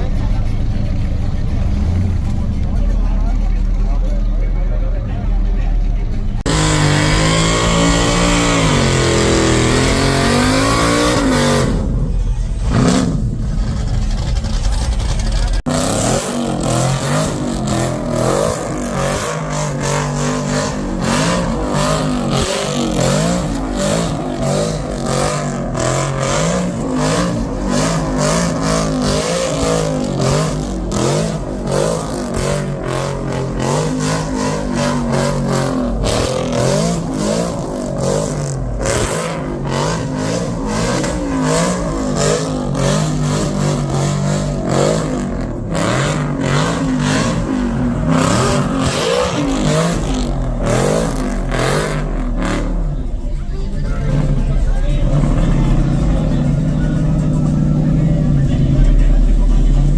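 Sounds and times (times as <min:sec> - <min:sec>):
car engine revving hard: 0:06.4 - 0:59.9.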